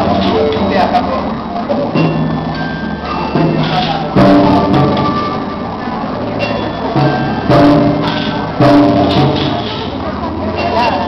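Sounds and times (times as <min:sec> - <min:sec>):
music with held chords: 0:01.6 - 0:11.0.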